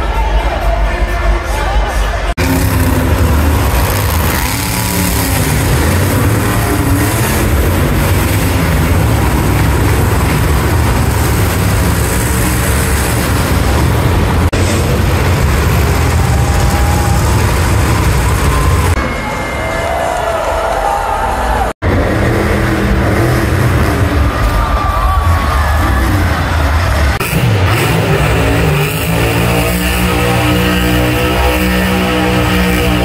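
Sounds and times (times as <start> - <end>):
monster truck engines revving: 0.0 - 33.0.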